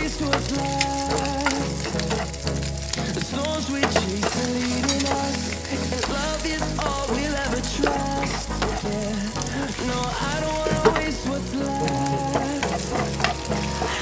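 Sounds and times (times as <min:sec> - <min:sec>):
background music with bass line: 0:00.0 - 0:14.0
meat sizzling in a pan: 0:00.0 - 0:14.0.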